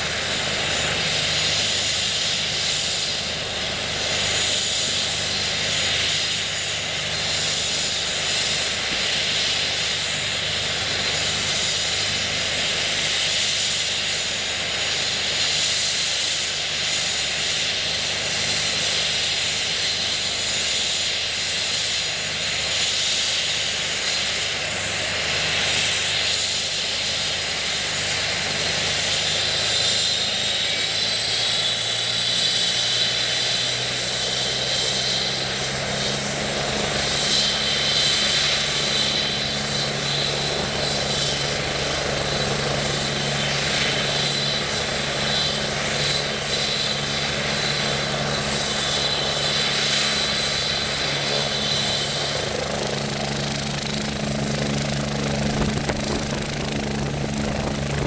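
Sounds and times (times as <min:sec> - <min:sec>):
helicopter rotor and engine: 0:00.0 - 0:58.0
high turbine whine: 0:00.0 - 0:58.0.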